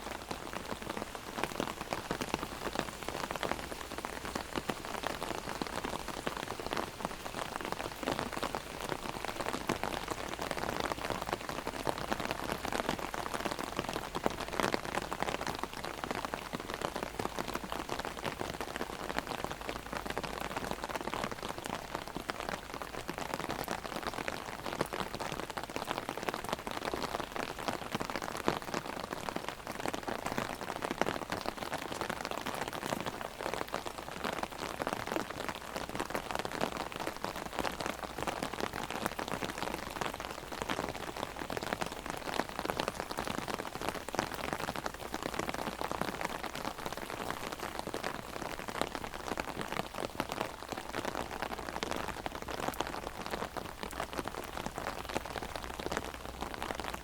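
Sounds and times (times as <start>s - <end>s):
heavy rain on an umbrella: 0.0s - 57.0s.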